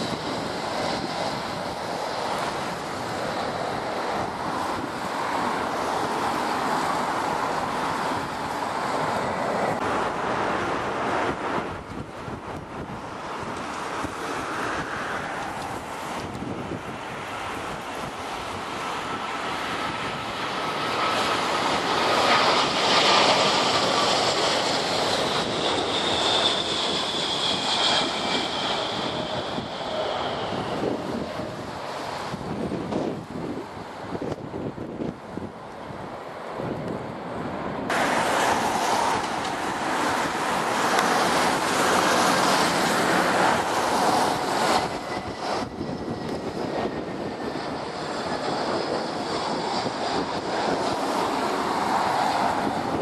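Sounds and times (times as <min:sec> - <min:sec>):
jet engines whining on approach: 0:00.0 - 0:53.0
wind buffeting microphone: 0:00.0 - 0:53.0.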